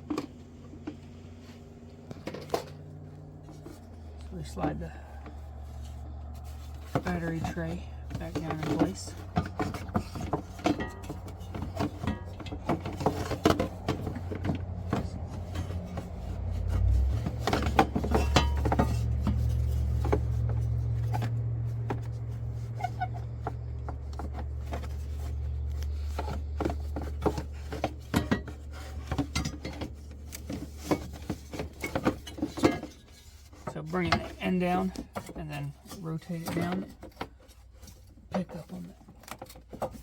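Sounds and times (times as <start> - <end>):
car parts and tools clattering: 0.0 - 40.0
low steady hum: 0.0 - 40.0.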